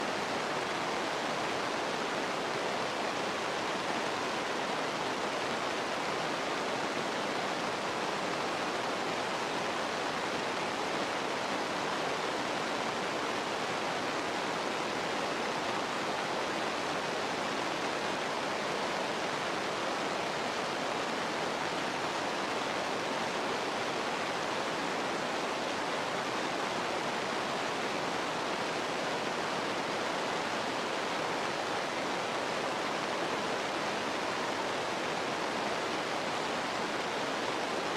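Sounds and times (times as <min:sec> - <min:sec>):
running water rushing: 0:00.0 - 0:37.9.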